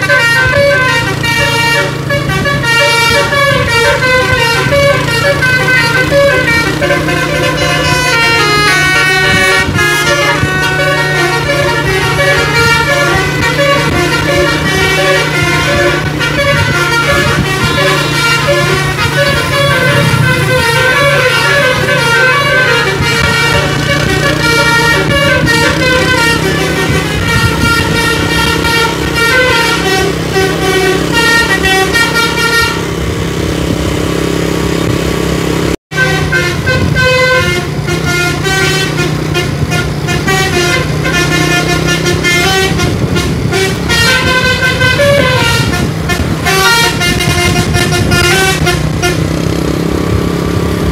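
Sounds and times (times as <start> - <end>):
multi-tone air horn melodies: 0.0 - 35.0, 35.7 - 49.6
low engine hum: 0.0 - 50.9.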